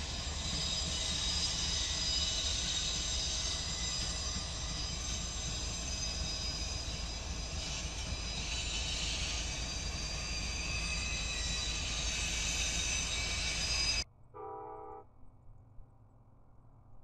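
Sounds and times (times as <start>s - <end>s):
freight train rumbling: 0.0s - 14.1s.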